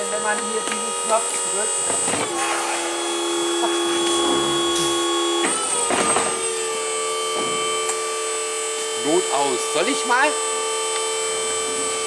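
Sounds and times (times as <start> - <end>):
boom lift motor whining: 0.0 - 12.0.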